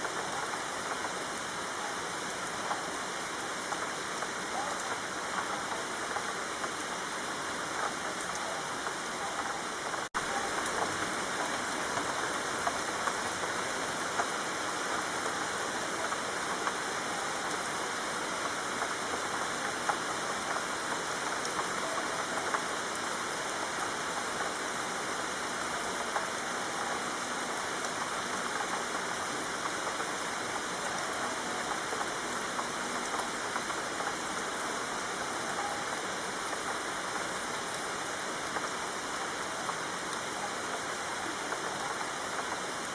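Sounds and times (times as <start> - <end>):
rain falling on a street: 0.0 - 42.9.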